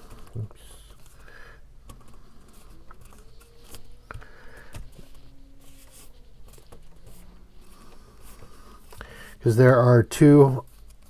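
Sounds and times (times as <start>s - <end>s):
faint paper rustling: 0.0s - 11.0s.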